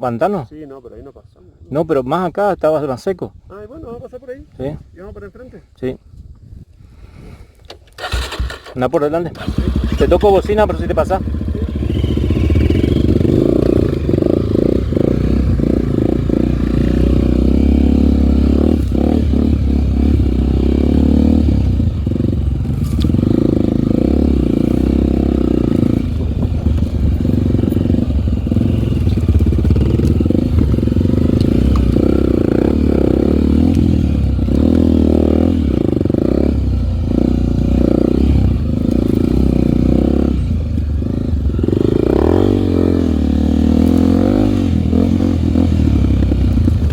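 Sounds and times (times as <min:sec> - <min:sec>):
motorcycle engine revving: 0:08.0 - 0:08.7, 0:09.3 - 0:46.9.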